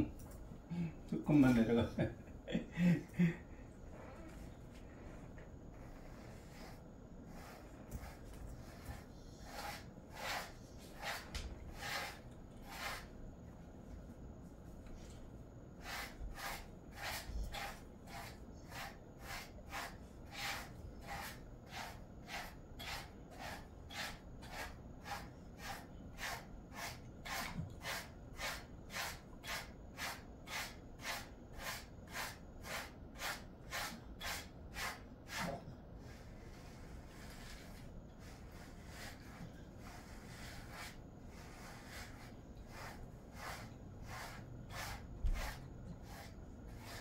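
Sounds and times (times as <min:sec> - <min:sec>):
brush strokes through dog fur: 0:04.3 - 0:13.1, 0:15.8 - 0:47.0.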